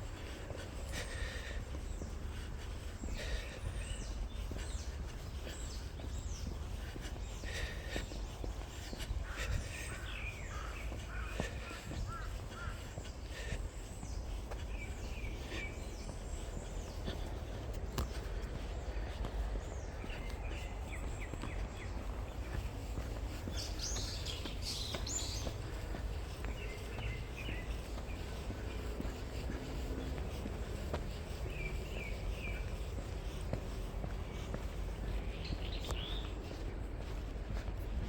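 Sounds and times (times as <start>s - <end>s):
birds chirping and calling: 0.0s - 38.0s.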